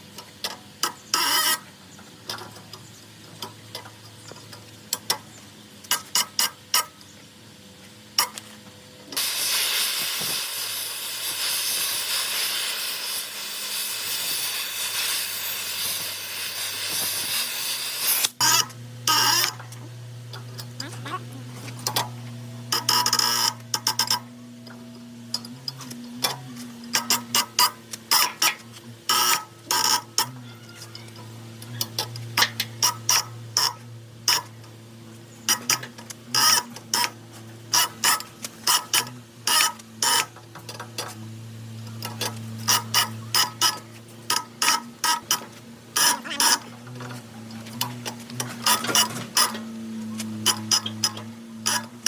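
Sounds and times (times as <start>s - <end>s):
steady low hum: 6.8s - 52.0s.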